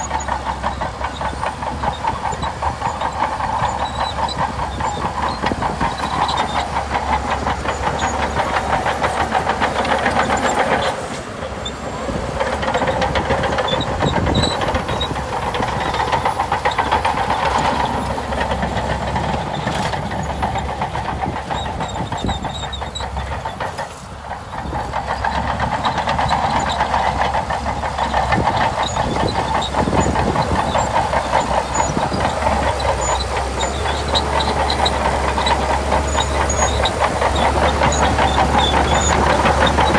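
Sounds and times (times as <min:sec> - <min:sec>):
bulldozer diesel engine under load: 0:00.0 - 0:39.9
steel tracks clattering: 0:00.0 - 0:39.9.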